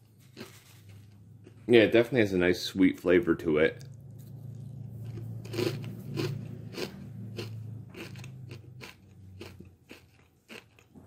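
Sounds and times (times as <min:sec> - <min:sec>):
person chewing crunchy cereal: 0:00.0 - 0:01.7, 0:03.8 - 0:11.0.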